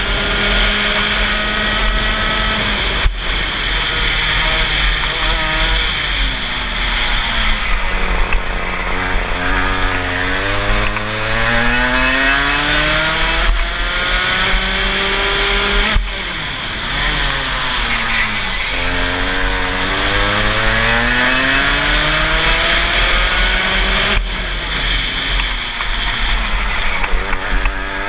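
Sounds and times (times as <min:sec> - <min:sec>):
kart engine revving: 0:00.0 - 0:28.0.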